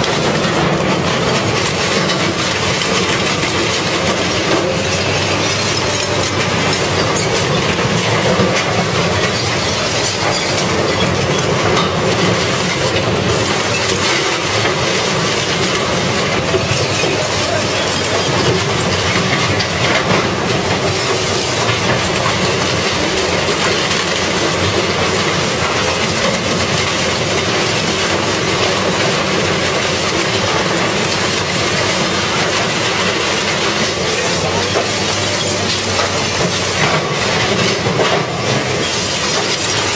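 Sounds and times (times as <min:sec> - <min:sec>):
metal shredder clanking and crunching: 0:00.0 - 0:39.9.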